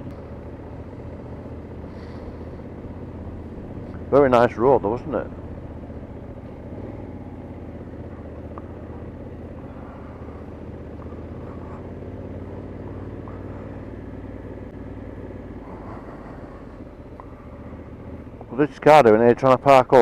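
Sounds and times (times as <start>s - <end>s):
motorcycle engine cruising: 0.0s - 20.0s
road and wind noise: 0.0s - 20.0s.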